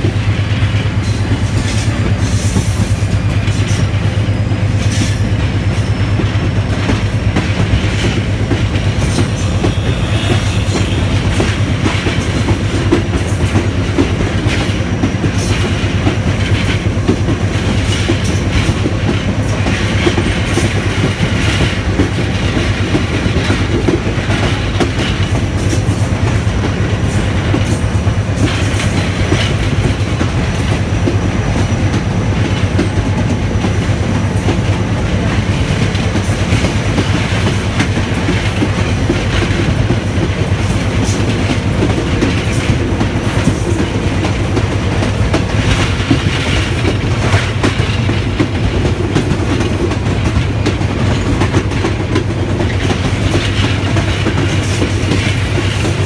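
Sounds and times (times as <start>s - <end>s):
rails clicking and clattering: 0.0s - 56.0s
train wheels rumbling on track: 0.0s - 56.0s.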